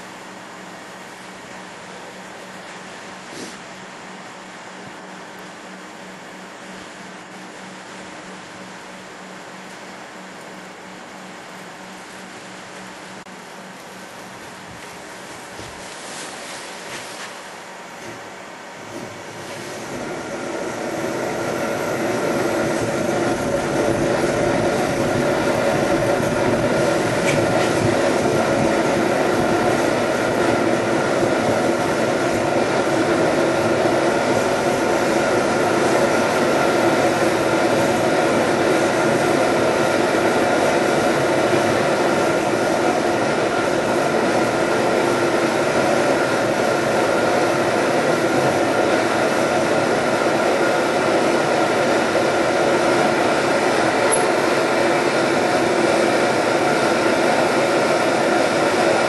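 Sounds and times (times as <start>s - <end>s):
camp stove burner roaring: 0.0s - 59.0s.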